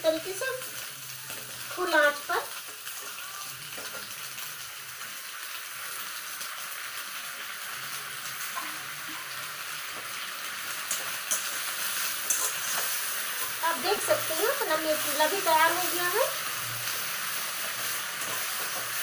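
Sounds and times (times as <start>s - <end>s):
gravy sizzling in a pan: 0.0s - 19.0s.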